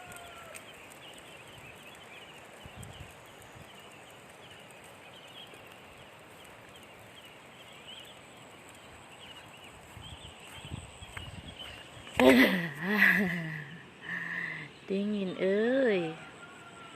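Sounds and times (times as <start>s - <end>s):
steady hiss: 0.0s - 16.1s
birds chirping: 0.0s - 16.9s.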